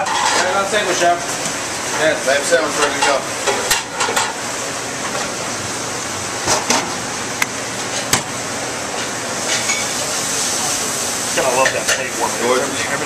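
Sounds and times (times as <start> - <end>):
busy restaurant kitchen: 0.0 - 13.0.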